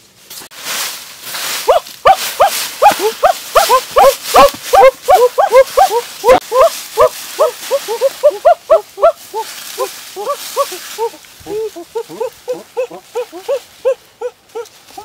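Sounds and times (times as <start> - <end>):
short rising and falling animal calls: 1.7 - 15.0.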